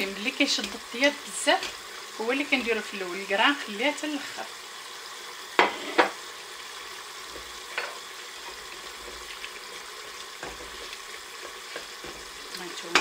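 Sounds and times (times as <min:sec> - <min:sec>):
broth simmering: 0:00.0 - 0:13.0.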